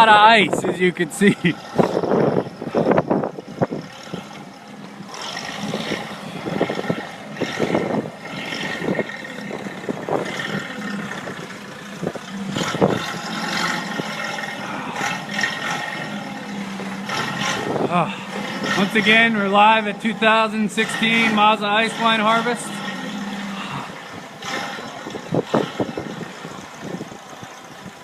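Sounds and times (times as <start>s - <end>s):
forklift engine running: 0.0s - 28.0s.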